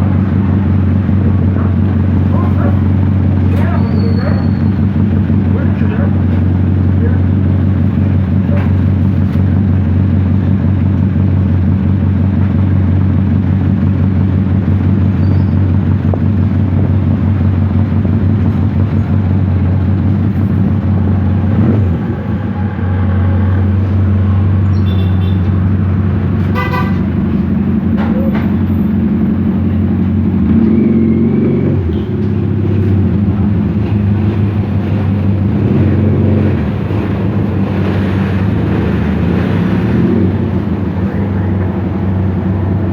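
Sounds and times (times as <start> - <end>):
motorcycle engine idling: 0.0 - 30.9, 31.7 - 42.9.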